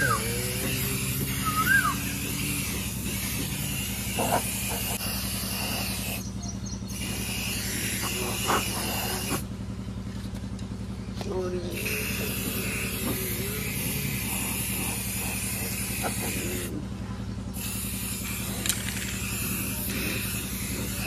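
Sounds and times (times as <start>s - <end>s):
spray paint can hissing: 0.0s - 6.3s, 7.0s - 9.4s, 11.8s - 16.8s, 17.6s - 21.0s
low mechanical hum: 0.0s - 21.0s.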